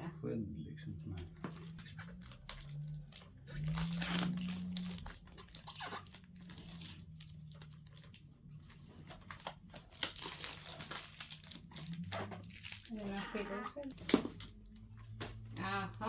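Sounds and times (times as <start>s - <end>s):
plastic film crinkling and tearing: 1.5s - 15.2s.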